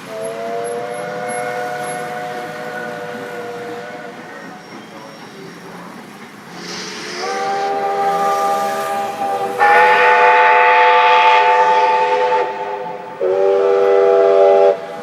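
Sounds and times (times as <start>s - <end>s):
steam locomotive whistle blasts: 0.0s - 5.4s, 6.5s - 15.0s.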